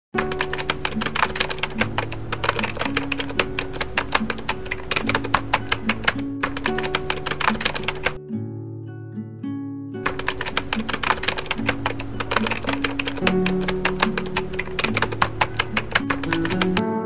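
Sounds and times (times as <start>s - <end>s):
fast clicking percussion: 0.2s - 8.2s, 10.1s - 16.8s.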